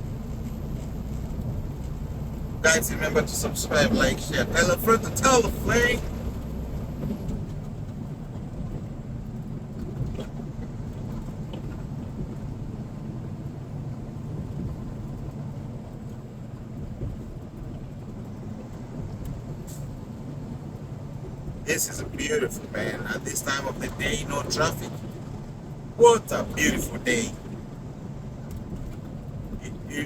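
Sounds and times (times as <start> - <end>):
truck engine and tyres rumbling: 0.0 - 30.0.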